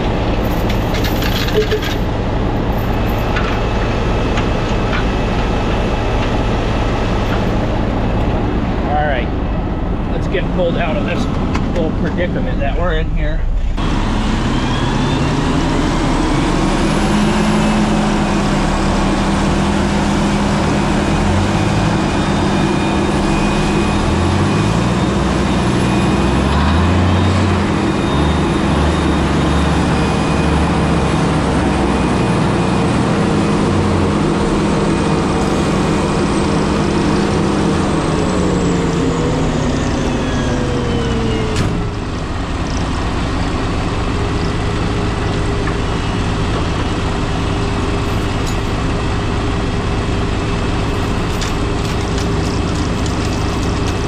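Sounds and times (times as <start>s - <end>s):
forage harvester whine: 0.0s - 54.0s
tractor engine drone: 0.0s - 54.0s.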